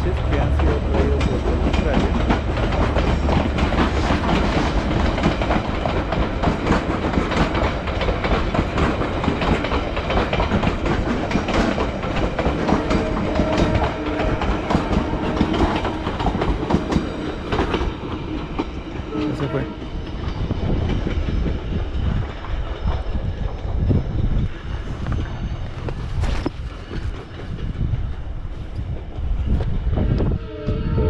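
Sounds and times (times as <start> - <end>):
train wagons clattering over rail joints: 0.0 - 29.9
train rumbling: 0.0 - 31.0.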